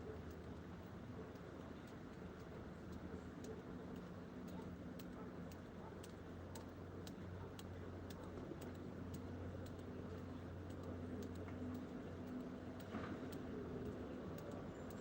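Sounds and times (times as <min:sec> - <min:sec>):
light ticking: 0:00.1 - 0:15.0.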